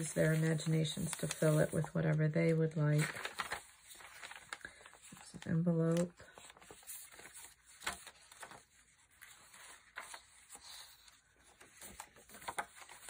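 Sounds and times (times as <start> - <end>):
paper pages turning: 0.0 - 13.0.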